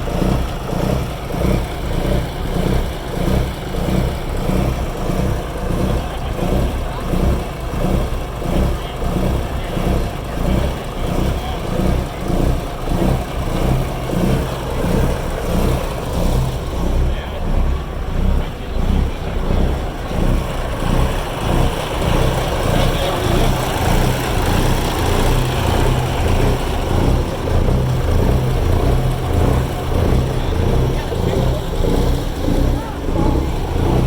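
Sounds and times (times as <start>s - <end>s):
diesel engines idling: 0.0s - 34.0s.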